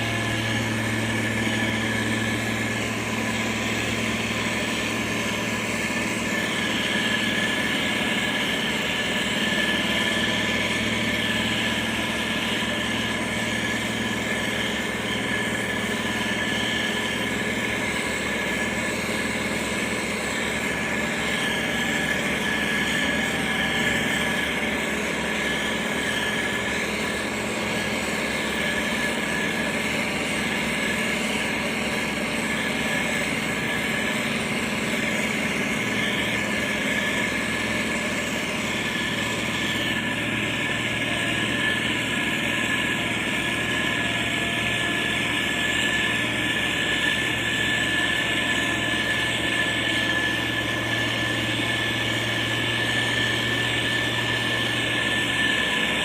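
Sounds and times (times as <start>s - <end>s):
diesel engine running: 0.0s - 56.0s
steady high whine: 0.0s - 56.0s.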